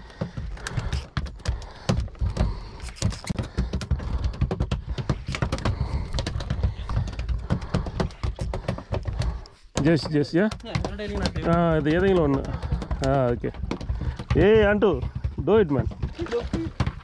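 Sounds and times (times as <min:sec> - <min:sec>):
rapid irregular clicks and knocks: 0:00.0 - 0:17.0.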